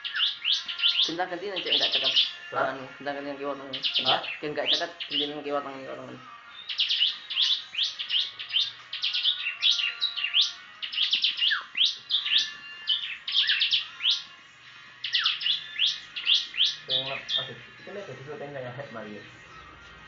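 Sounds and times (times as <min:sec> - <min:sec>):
bird singing high chirps: 0:00.0 - 0:02.6, 0:03.6 - 0:17.9.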